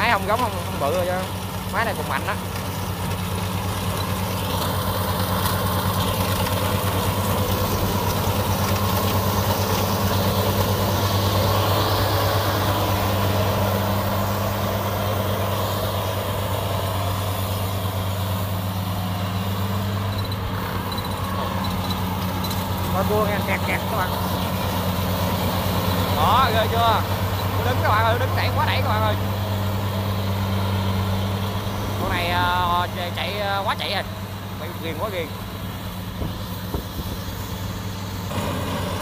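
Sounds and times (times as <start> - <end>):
diesel engine hum: 0.0 - 39.0
harvester cutting machinery: 0.0 - 39.0.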